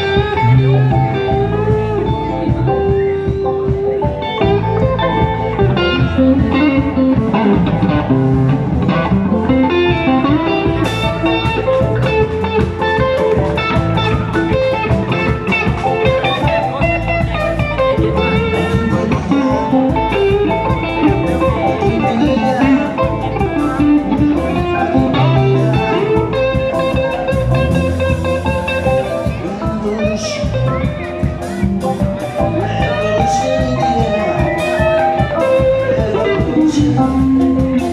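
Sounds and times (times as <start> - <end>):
drum kit: 0.0 - 37.9
electric guitars: 0.0 - 37.9
keyboard: 0.0 - 37.9.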